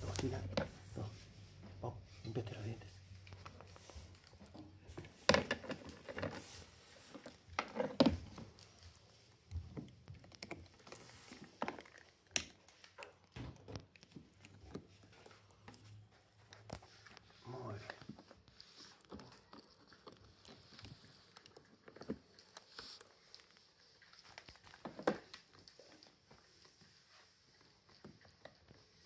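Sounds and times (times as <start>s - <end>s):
dog gnawing plastic toothbrush: 3.1s - 26.7s.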